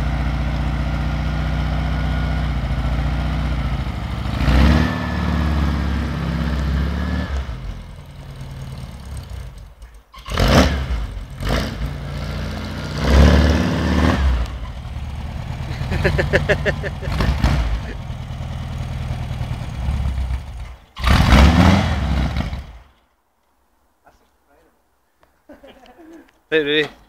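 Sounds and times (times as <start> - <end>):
engine running and revving: 0.0 - 22.9.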